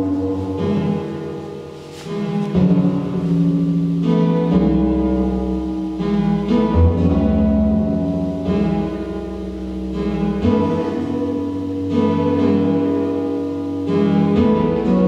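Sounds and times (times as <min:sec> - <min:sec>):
deep bass drone: 0:00.0 - 0:15.0.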